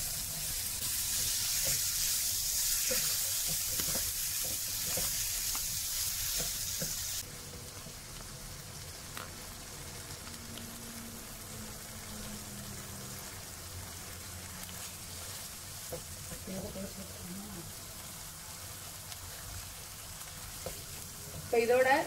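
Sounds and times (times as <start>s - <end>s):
prawns sizzling in frying pan: 0.0s - 22.0s.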